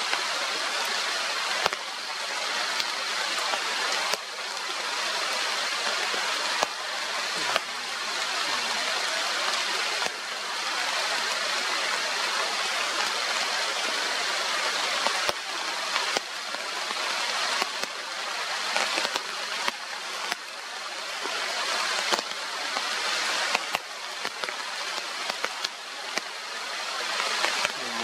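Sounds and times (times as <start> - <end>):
heavy rain falling: 0.0 - 28.0
raindrops ticking near microphone: 0.0 - 28.0.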